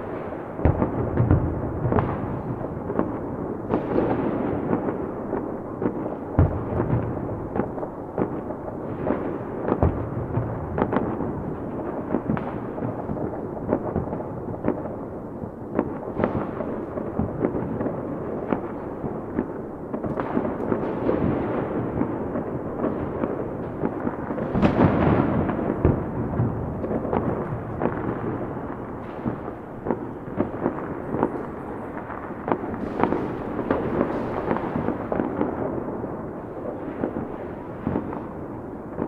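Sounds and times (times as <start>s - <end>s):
fireworks bangs: 0.0s - 39.0s
fireworks crackling pops: 0.0s - 39.0s.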